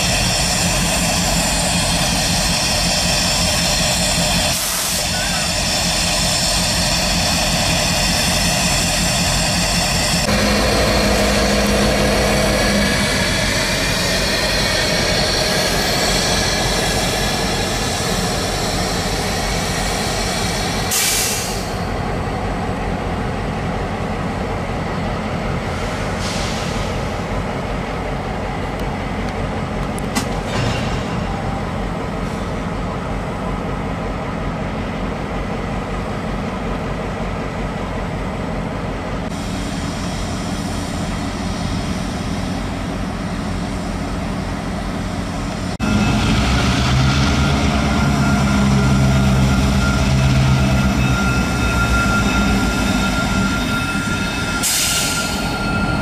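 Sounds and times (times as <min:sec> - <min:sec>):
locomotive engine drone: 0:00.0 - 0:56.0
rail cars rolling on track: 0:00.0 - 0:56.0.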